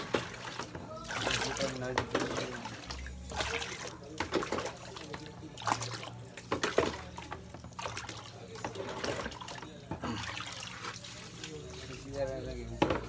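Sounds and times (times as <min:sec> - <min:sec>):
water splashing in a plastic basin: 0:00.0 - 0:13.0.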